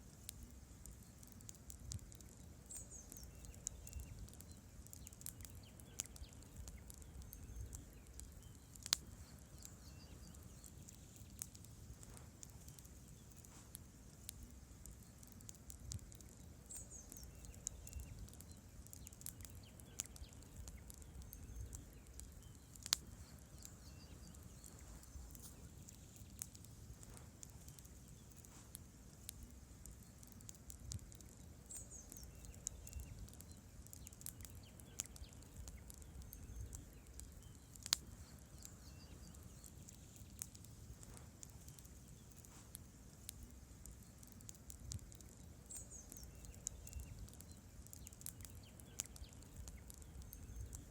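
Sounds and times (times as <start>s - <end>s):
campfire crackling and popping: 0.0s - 50.9s
low rumble of flames: 0.0s - 50.9s
faint high chirps: 0.2s - 50.9s.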